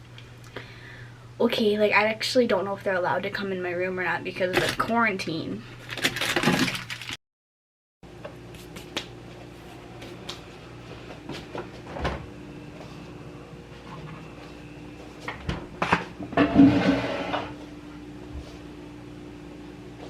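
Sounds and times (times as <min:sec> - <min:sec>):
faint steady hum: 0:00.0 - 0:06.0, 0:08.1 - 0:20.0.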